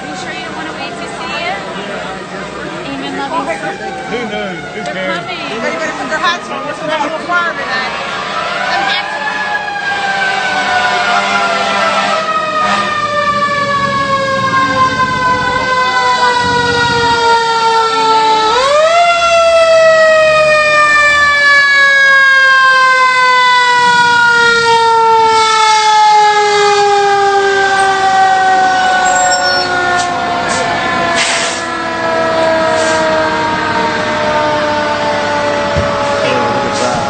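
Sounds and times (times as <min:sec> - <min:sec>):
fire engine siren wailing: 0:00.0 - 0:37.0.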